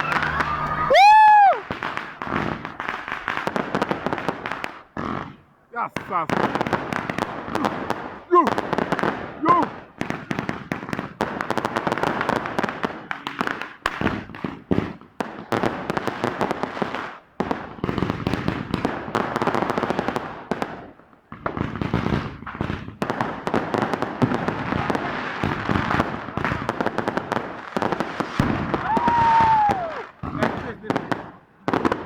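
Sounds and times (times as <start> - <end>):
fireworks crackling bangs: 0.0 - 32.0.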